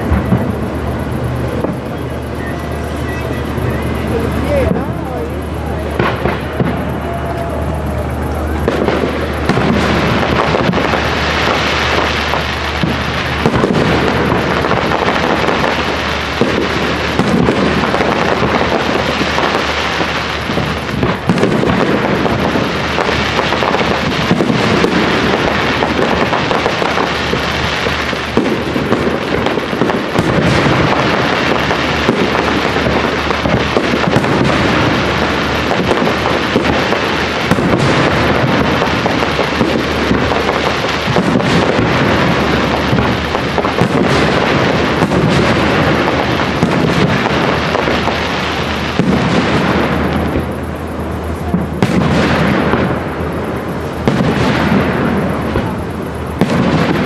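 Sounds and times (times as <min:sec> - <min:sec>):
fireworks shells bursting: 0:00.0 - 0:57.0.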